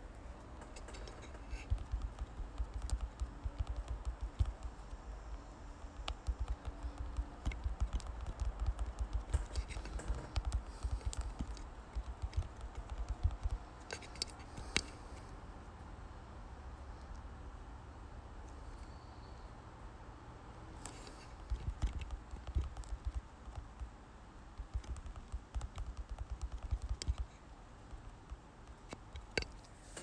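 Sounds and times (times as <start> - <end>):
rapid light tapping: 0.0 - 15.0, 20.8 - 30.0.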